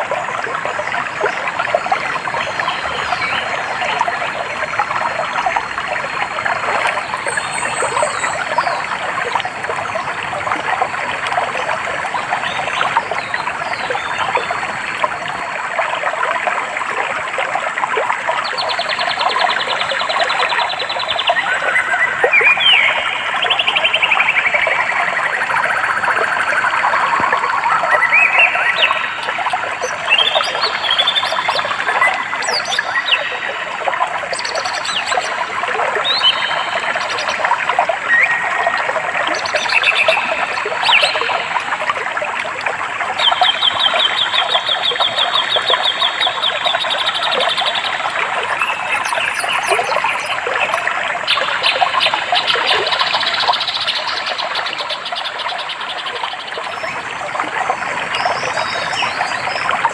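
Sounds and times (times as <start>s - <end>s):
flowing water: 0.0s - 59.9s
songbirds calling and singing: 0.7s - 9.4s, 18.2s - 42.0s, 43.2s - 59.9s.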